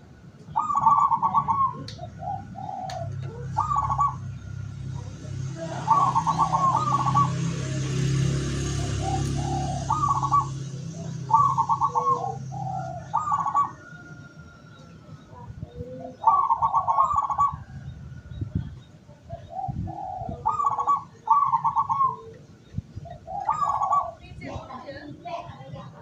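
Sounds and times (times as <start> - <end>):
dove cooing: 0.5 - 26.0.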